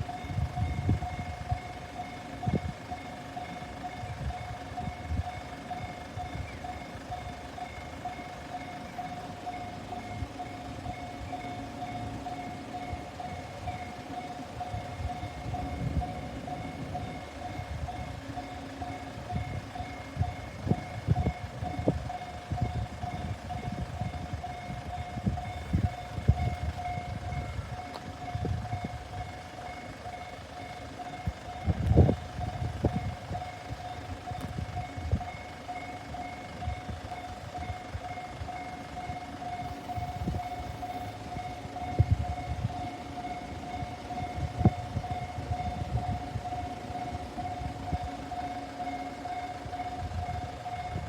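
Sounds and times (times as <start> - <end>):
railroad crossing warning bell: 0.0 - 51.0.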